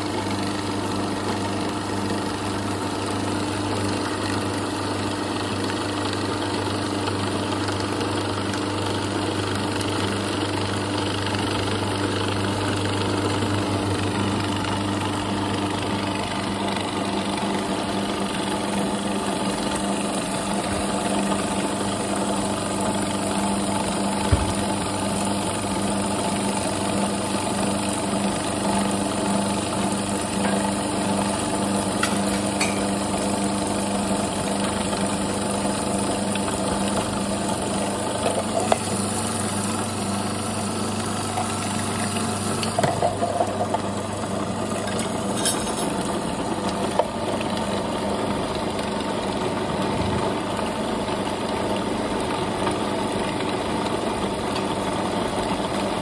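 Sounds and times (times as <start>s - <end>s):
food processor motor running: 0.0s - 56.0s.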